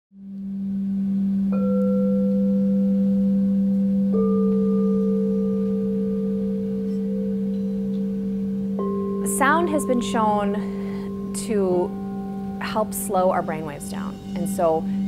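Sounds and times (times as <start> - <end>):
low singing bowl tone: 0.2 - 15.0
singing bowl struck: 0.7 - 15.0.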